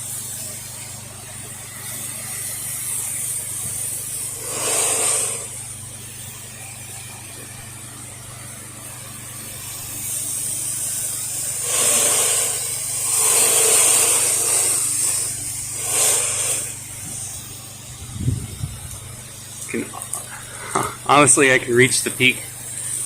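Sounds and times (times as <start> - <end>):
pump humming: 0.0 - 23.0
spray hissing from a nozzle: 0.0 - 23.0.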